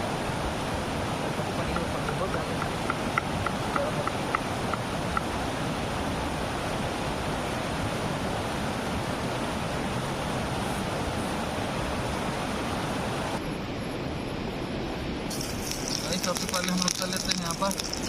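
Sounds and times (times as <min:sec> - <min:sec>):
flowing river water: 0:00.0 - 0:13.4, 0:15.3 - 0:18.0.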